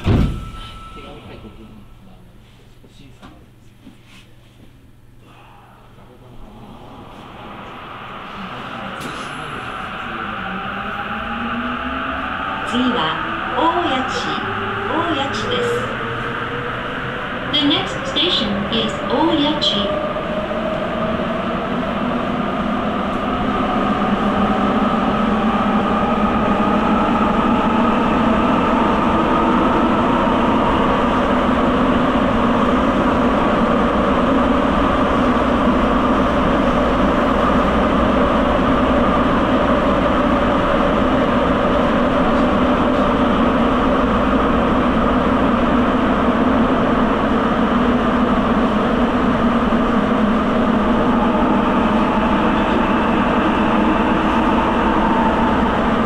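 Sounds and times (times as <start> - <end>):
subway train running roar: 0.0 - 56.0.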